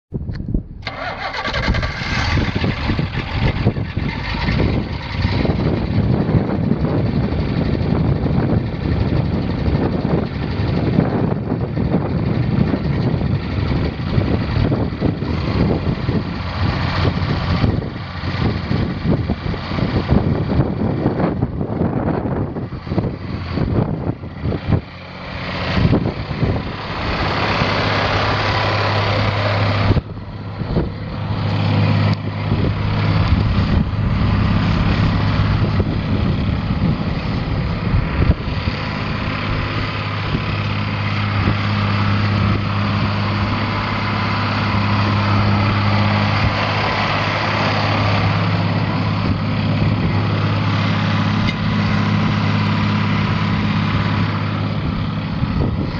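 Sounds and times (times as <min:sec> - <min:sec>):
tractor diesel engine running: 0:00.1 - 0:55.9.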